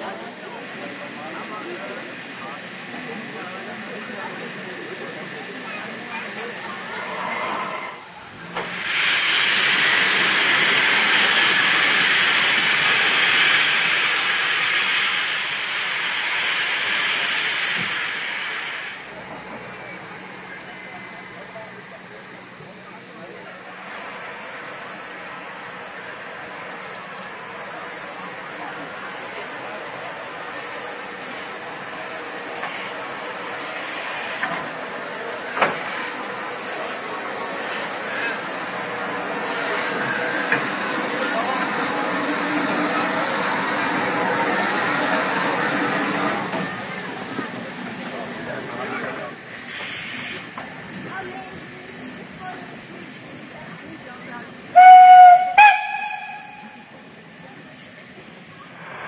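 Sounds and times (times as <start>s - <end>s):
steam hissing loudly: 0.0s - 59.0s.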